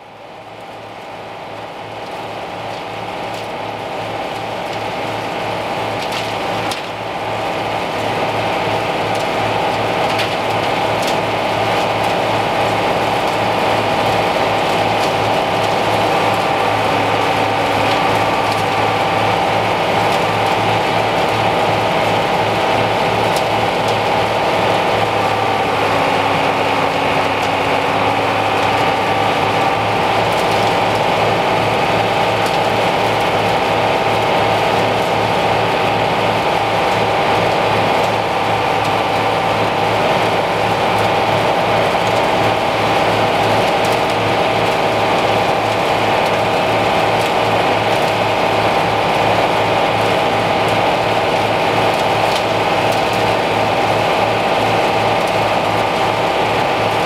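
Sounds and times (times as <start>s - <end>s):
tractor engines pulsing: 1.3s - 57.0s.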